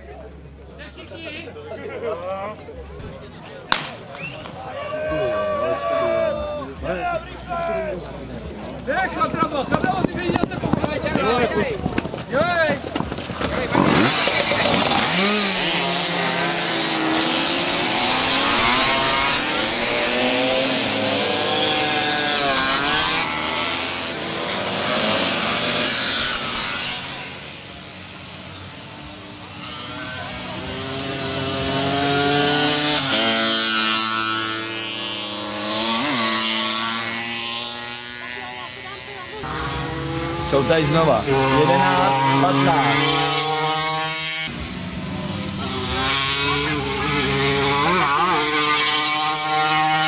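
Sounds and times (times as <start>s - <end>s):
small motorcycles racing past: 3.7s - 50.0s.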